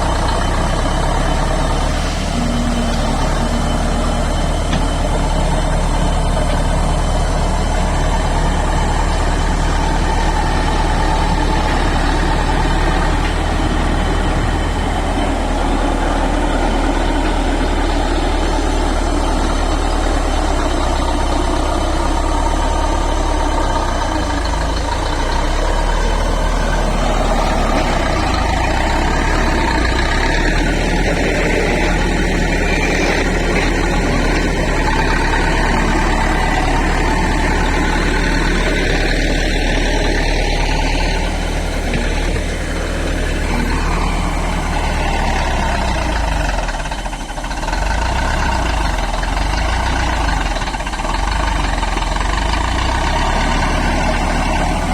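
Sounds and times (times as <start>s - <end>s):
bulldozer diesel engine rumbling: 0.0s - 54.9s.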